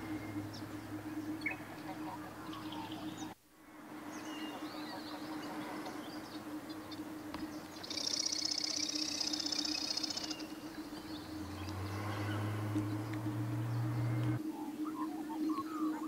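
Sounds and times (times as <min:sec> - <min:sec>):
steady low hum: 0:00.0 - 0:15.1
small birds chirping: 0:00.0 - 0:16.0.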